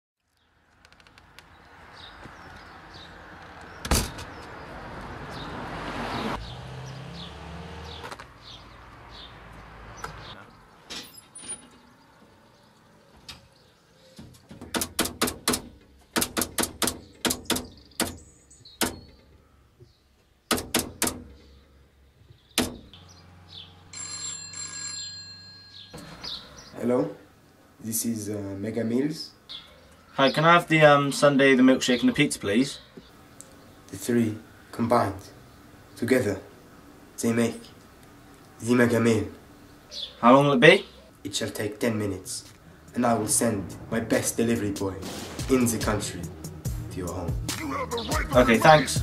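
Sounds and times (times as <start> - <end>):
birds chirping: 0.2 - 49.0.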